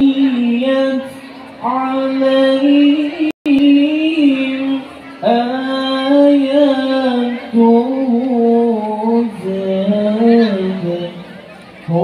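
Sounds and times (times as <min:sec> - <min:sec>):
man chanting over loudspeaker: 0:00.0 - 0:12.0.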